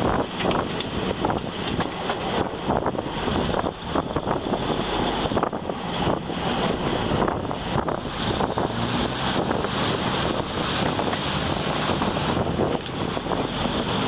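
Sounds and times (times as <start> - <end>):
train wheels clattering on rails: 0.0 - 7.8, 9.8 - 14.0
wind buffeting microphone: 0.0 - 14.0.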